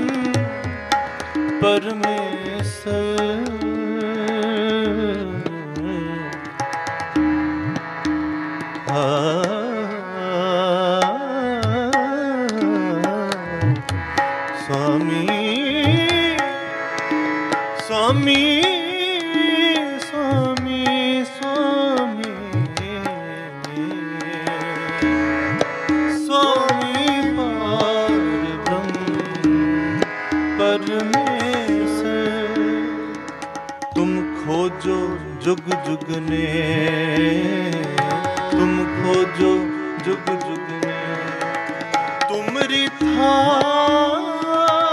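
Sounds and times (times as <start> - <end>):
tabla strokes: 0.0 - 9.7, 11.0 - 44.9
harmonium drone: 0.0 - 44.9
man singing devotional melismatic lines: 0.0 - 44.9.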